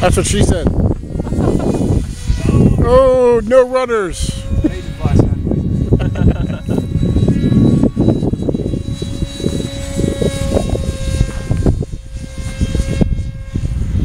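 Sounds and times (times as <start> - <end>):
electric motor whining: 0.0 - 14.0
wind buffeting microphone: 0.0 - 14.0.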